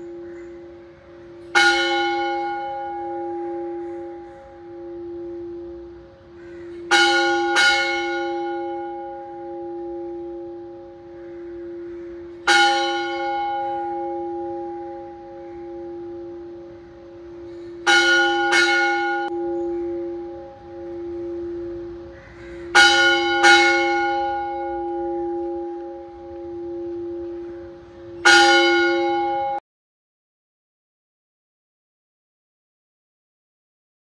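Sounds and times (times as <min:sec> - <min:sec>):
large temple bell ringing: 0:00.0 - 0:29.6.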